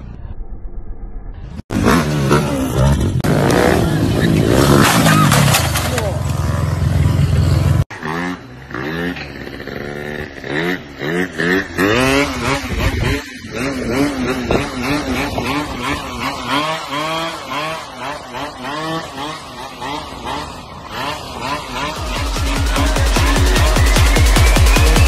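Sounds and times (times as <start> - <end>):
scooter engine revving: 1.6 - 25.0.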